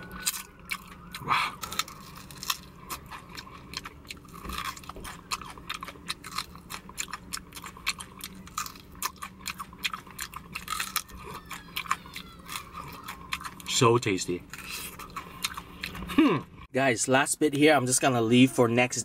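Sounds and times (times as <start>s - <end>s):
crunching and chewing food: 0.0s - 16.7s.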